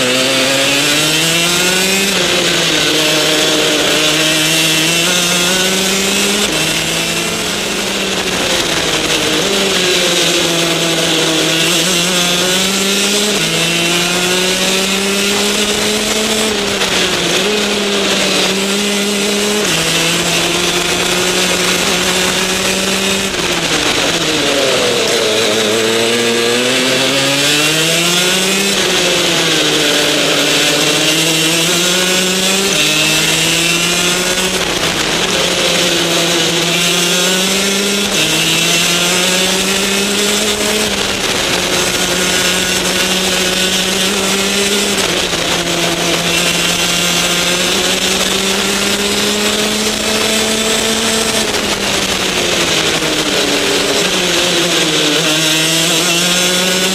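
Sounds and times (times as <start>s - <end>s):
two-stroke kart engine racing: 0.0s - 56.9s.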